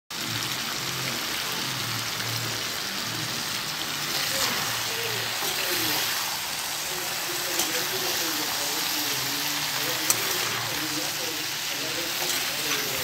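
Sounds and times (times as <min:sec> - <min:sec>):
pumpkin sizzling in hot oil: 0:00.1 - 0:13.0.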